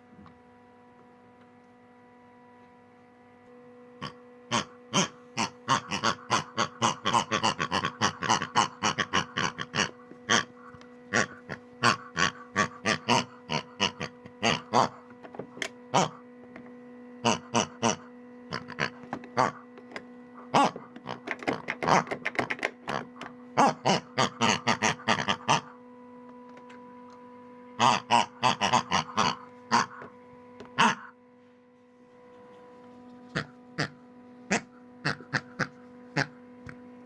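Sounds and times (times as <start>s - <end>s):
steady electrical hum: 0.0s - 37.0s.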